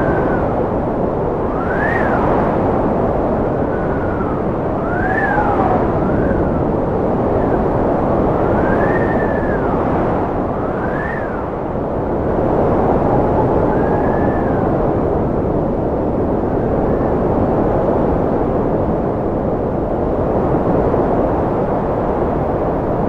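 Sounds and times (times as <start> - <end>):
wind rushing and whistling: 0.0 - 23.0.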